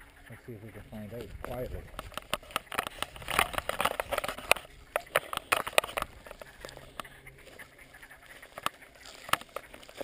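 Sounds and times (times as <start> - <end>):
footsteps crunching dry leaves: 0.0 - 10.0.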